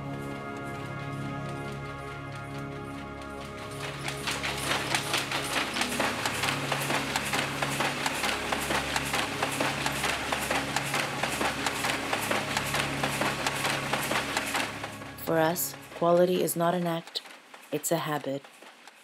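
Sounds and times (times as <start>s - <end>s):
low machine hum: 0.0s - 16.9s
loom clattering: 3.8s - 19.0s.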